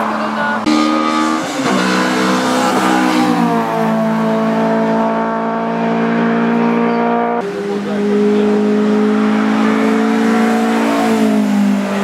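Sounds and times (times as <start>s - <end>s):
race car engine running hard: 0.0s - 12.0s.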